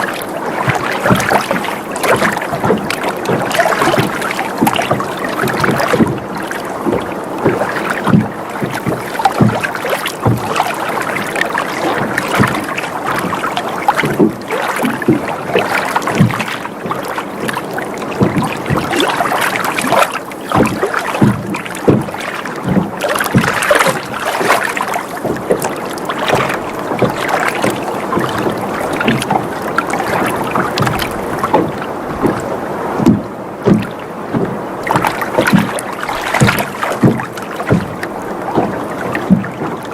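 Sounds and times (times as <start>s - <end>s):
small water splashes: 0.0s - 39.9s
water lapping against boat hull: 0.0s - 39.9s.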